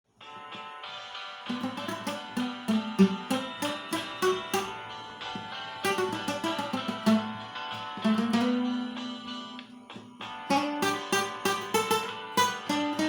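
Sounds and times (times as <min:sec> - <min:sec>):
hymn melody on acoustic guitar: 0:01.5 - 0:13.0.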